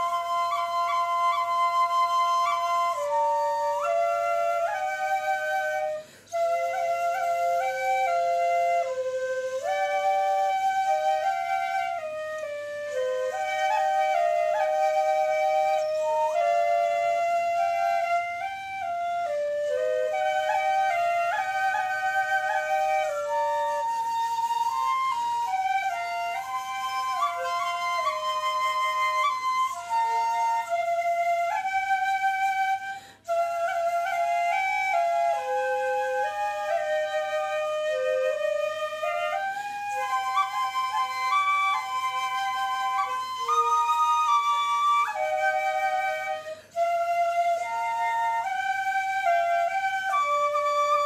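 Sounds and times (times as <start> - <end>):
bamboo flutes playing melody: 0.0 - 51.0.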